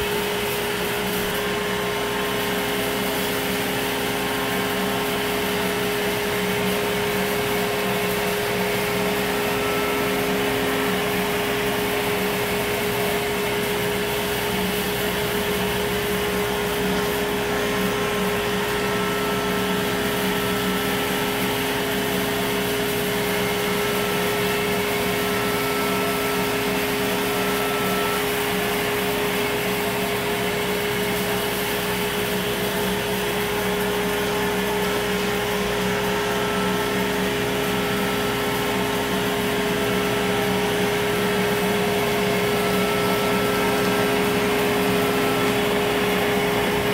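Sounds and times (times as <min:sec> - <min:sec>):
dust collector air rush: 0:00.0 - 0:46.9
router spindle whine: 0:00.0 - 0:46.9.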